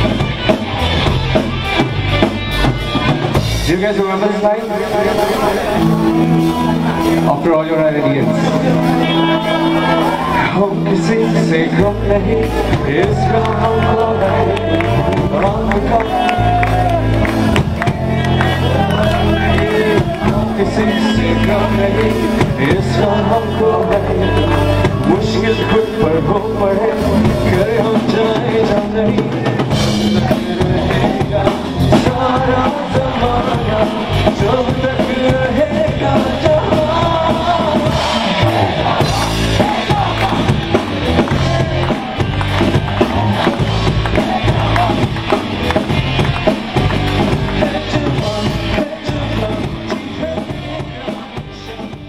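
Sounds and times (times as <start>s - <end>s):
drum kit: 0.0s - 52.0s
electric guitar: 0.0s - 52.0s
man singing: 3.6s - 42.3s, 46.4s - 52.0s.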